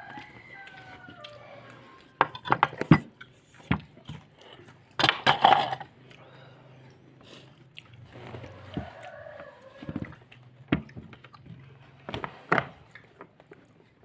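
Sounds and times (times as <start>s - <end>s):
crunchy food being chewed: 0.0s - 14.0s.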